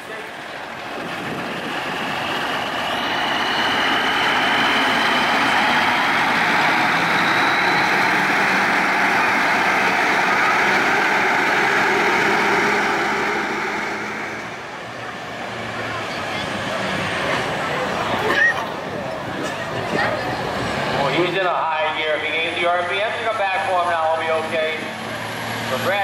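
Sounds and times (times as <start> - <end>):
truck diesel engine passing: 0.0 - 26.0.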